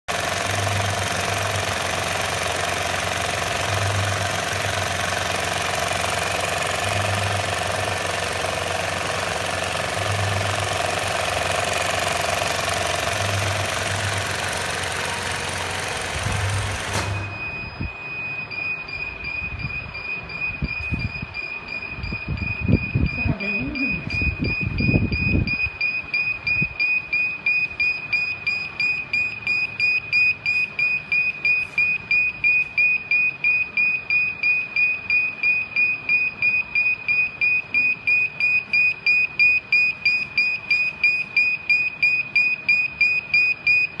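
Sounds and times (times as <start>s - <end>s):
sewing machine whining: 0.1s - 44.0s.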